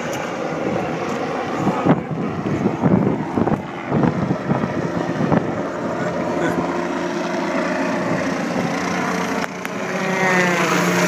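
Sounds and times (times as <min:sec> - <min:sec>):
distant helicopter flying: 0:00.0 - 0:11.0
wind buffeting microphone: 0:00.0 - 0:11.0.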